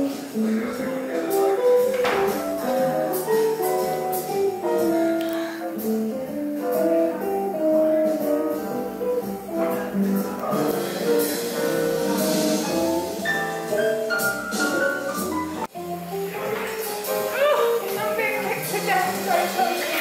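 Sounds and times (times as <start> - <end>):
light percussion beat: 1.2 - 20.0.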